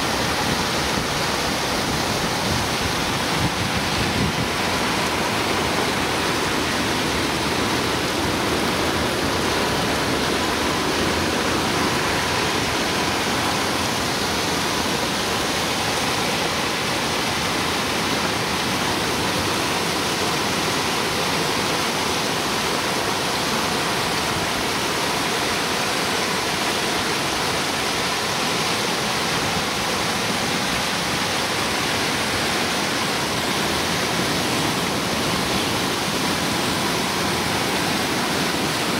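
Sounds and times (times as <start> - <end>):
muddy water rushing: 0.0 - 38.9.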